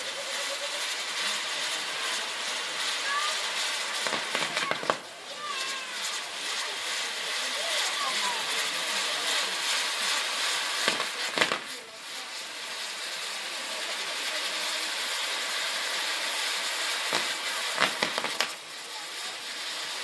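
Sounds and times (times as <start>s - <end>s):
firework wheel hissing sparks: 0.0s - 20.0s
sharp firework cracks: 0.2s - 20.0s.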